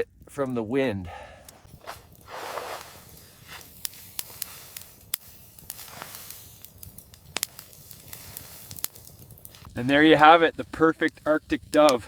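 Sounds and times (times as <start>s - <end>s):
wood fire crackling: 0.1s - 12.0s
soft rustle: 1.5s - 12.0s.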